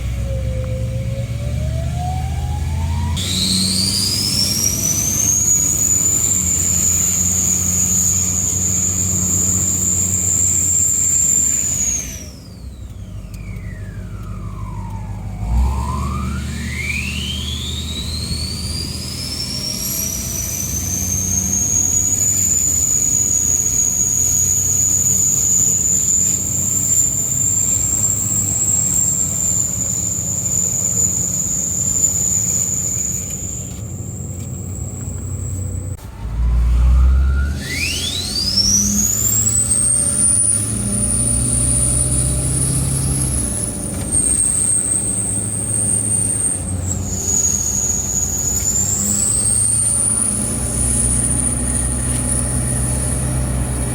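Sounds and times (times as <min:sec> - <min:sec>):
diesel engine: 0:00.0 - 0:53.9
high turbo whistle: 0:00.0 - 0:53.9.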